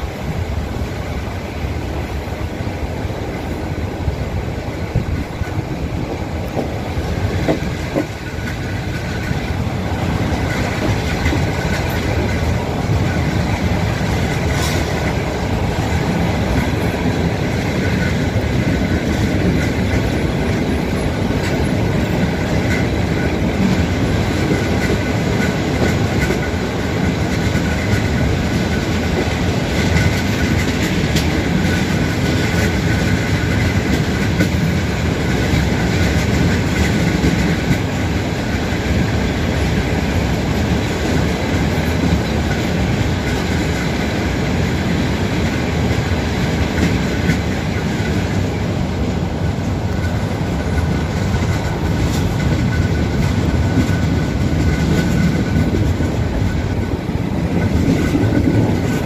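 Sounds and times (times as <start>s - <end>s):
rail joint clicks: 0.0s - 59.0s
train wheels rumbling on rails: 0.0s - 59.0s.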